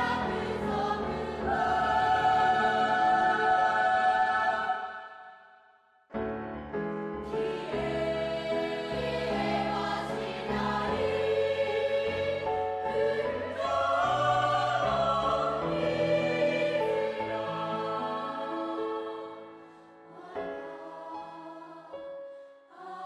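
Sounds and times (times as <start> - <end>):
choir singing sustained chords: 0.0 - 5.8, 7.2 - 22.0.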